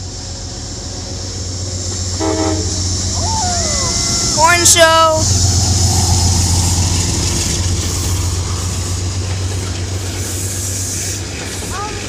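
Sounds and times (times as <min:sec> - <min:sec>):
locomotive engine drone: 0:00.0 - 0:12.0
train rolling noise: 0:00.0 - 0:12.0.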